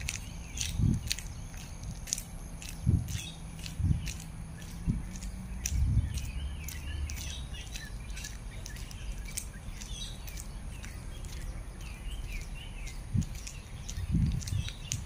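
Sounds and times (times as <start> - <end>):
low rumble: 0.0 - 14.8
birds chirping: 0.0 - 15.0.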